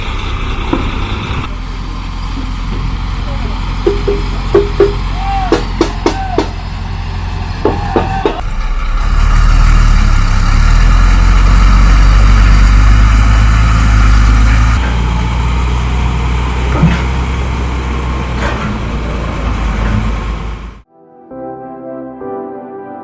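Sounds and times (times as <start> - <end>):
truck engine rumbling: 0.0 - 20.9.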